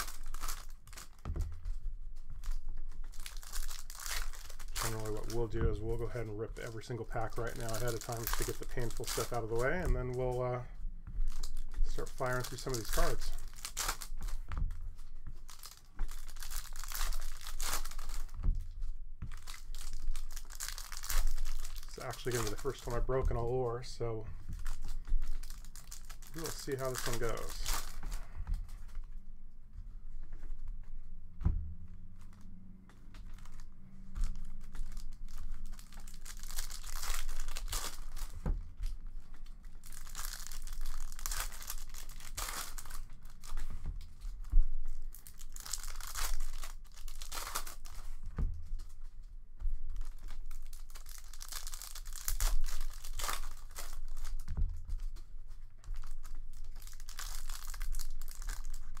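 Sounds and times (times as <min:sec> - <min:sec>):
foil wrappers tearing and crinkling: 0:00.0 - 0:29.1, 0:33.2 - 0:59.0.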